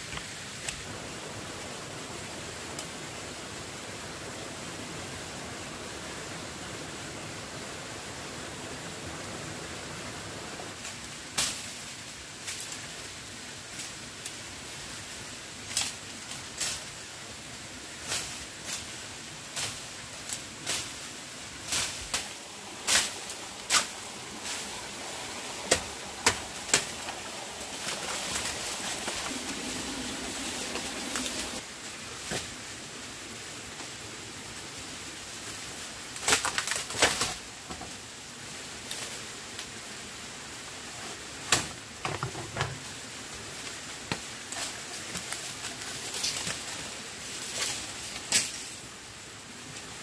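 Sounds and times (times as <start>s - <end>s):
steady hiss: 0.0s - 50.0s.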